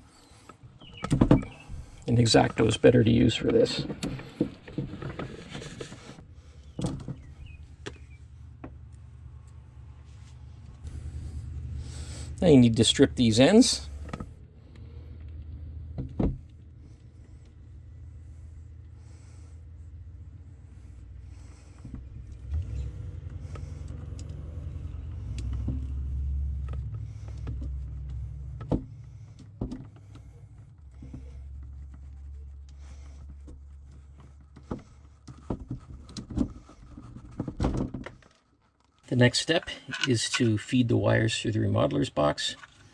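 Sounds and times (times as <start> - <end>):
low steady rumble: 0.0 - 38.2.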